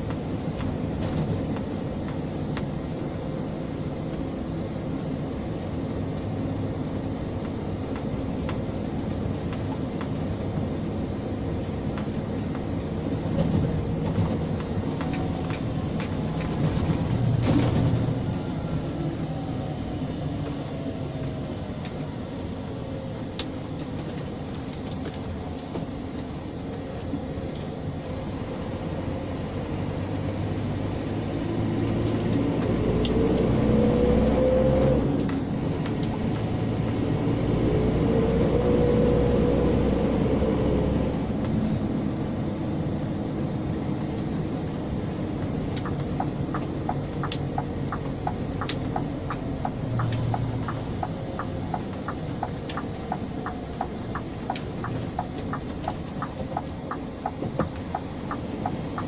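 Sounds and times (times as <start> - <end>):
diesel engine running: 0.0 - 59.0
tyre and road noise: 0.0 - 59.0.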